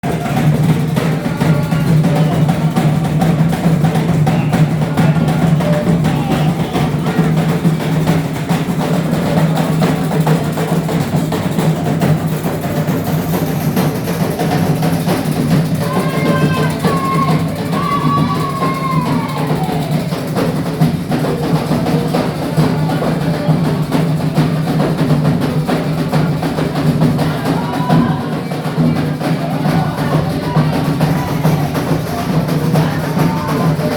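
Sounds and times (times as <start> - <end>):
fast dense drumming: 0.0 - 33.9.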